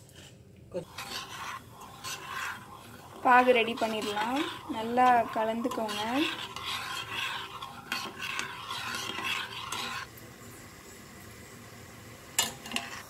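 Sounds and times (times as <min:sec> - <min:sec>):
spoon scraping a saucepan: 0:00.1 - 0:10.1, 0:12.4 - 0:13.0.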